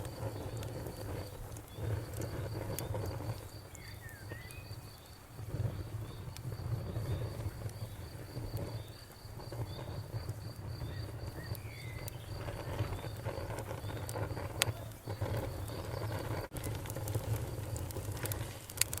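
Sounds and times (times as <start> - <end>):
crickets chirping: 0.0 - 18.6
bonfire crackling and popping: 0.0 - 19.0
low fire rumble: 0.0 - 19.0.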